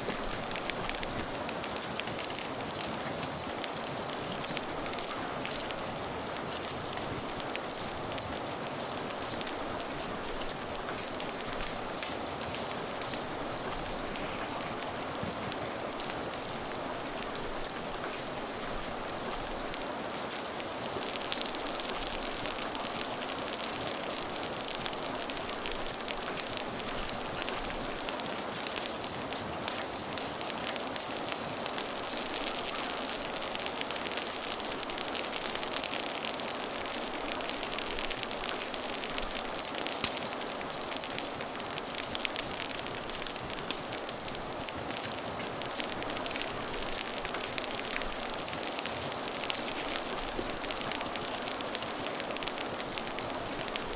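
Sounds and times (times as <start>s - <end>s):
fire crackling and popping: 0.0s - 53.9s
steady rain: 0.0s - 53.9s.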